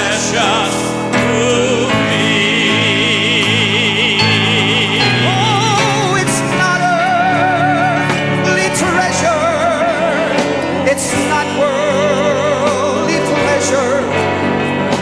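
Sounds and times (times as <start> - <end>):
gospel singing: 0.0 - 15.0
musical accompaniment: 0.0 - 15.0.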